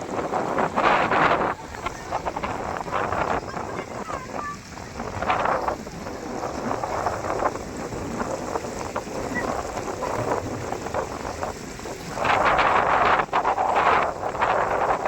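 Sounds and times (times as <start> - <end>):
waterfall rushing: 0.0 - 15.0
wind buffeting microphone: 0.0 - 15.0.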